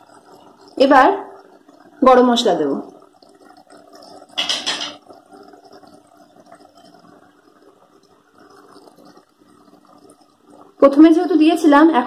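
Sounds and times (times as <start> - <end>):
faint low bubbling: 0.0 - 12.0.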